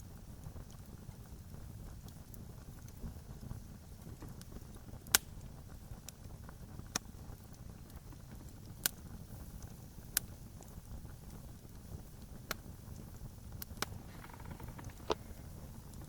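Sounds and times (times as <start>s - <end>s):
campfire popping and ticking: 0.0s - 16.0s
low rumble of fire: 0.0s - 16.0s.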